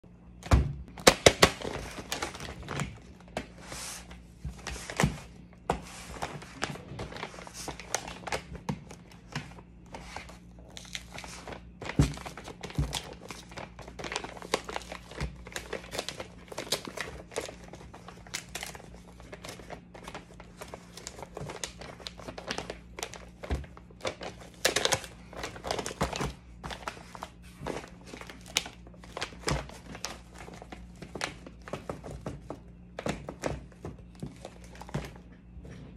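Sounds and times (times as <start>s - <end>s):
plastic bag crinkling and tearing: 0.9s - 3.7s, 6.1s - 35.2s.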